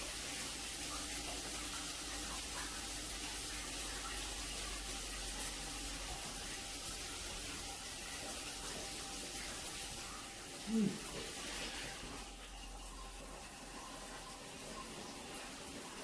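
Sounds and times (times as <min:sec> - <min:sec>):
shower water hissing: 0:00.0 - 0:16.0.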